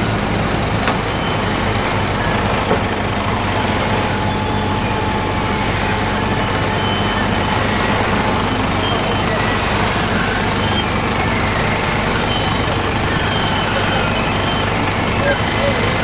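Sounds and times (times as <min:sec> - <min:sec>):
heavy machinery engines droning: 0:00.0 - 0:16.0.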